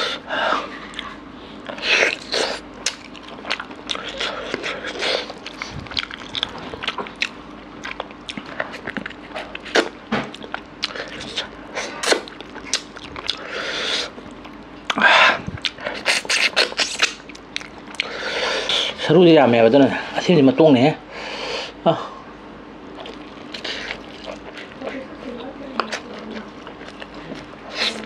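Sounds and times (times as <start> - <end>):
wet chewing and smacking: 0.8 - 19.0, 22.9 - 28.0.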